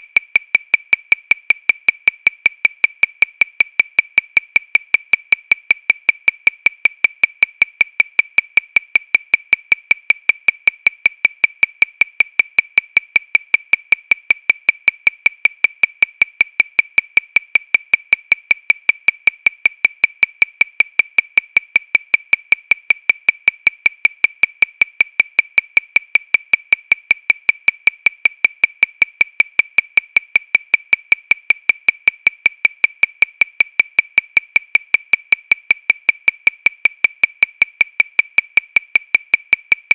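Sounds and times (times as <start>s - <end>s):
metronome clicking: 0.0s - 39.9s.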